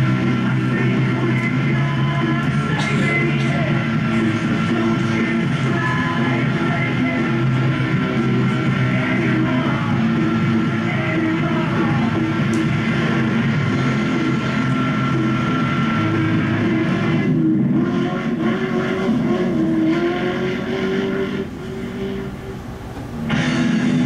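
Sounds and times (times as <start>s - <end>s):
rock music with guitar: 0.0s - 24.0s.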